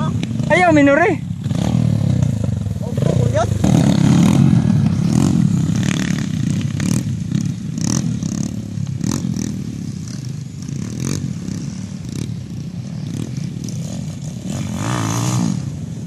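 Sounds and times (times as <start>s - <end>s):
dirt bike engines: 0.0s - 16.0s.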